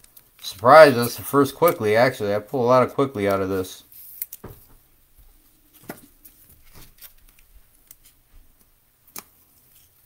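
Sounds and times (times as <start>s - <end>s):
cardboard cards rustling: 0.0s - 2.2s, 3.2s - 4.7s, 5.6s - 10.0s.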